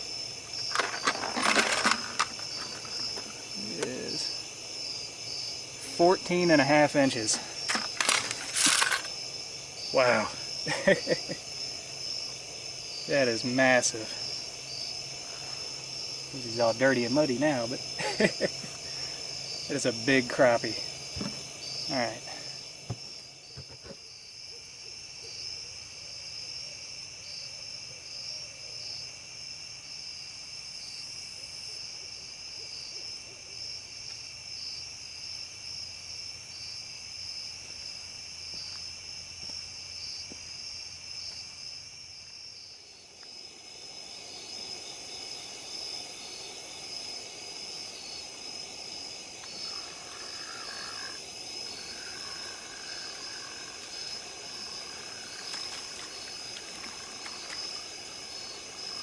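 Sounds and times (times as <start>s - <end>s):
crickets and katydids trilling: 0.0s - 59.0s.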